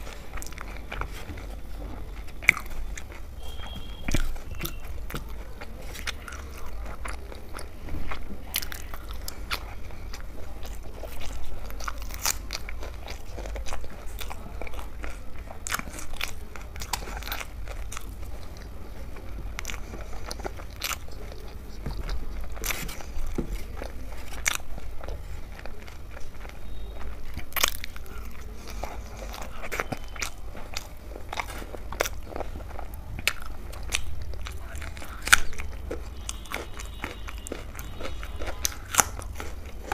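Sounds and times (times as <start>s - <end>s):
close chewing and biting: 0.0s - 39.9s
crisp crunches: 0.0s - 39.9s
steady low hum: 0.0s - 39.9s.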